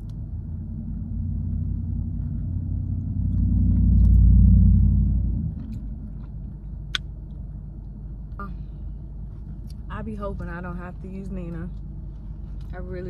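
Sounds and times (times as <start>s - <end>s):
car rumbling on road: 0.0s - 13.0s.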